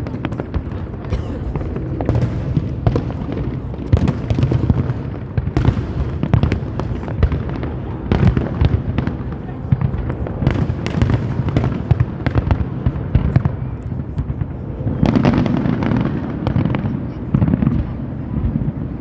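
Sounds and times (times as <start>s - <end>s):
fireworks booms rumbling: 0.0s - 19.0s.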